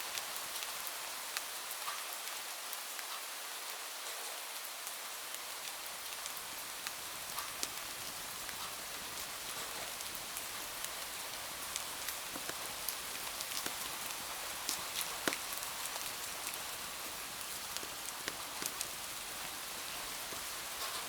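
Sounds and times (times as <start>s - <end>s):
rain on a window: 0.0s - 21.0s.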